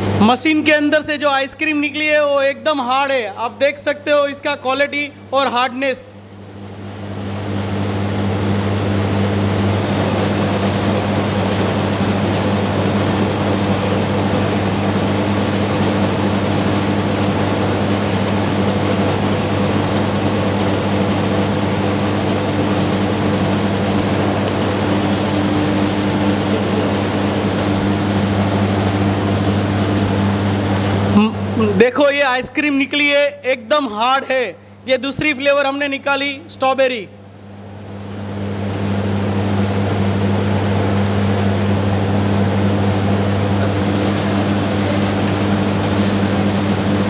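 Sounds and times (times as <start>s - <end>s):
ice cream machine motor hum: 0.0s - 47.0s.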